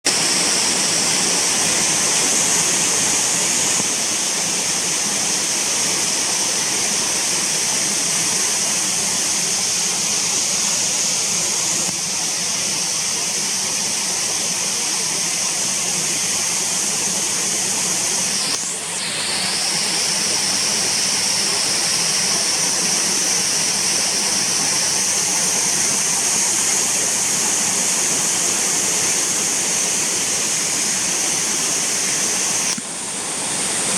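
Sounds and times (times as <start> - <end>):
waterfall rushing: 0.1 - 13.5, 15.3 - 33.9.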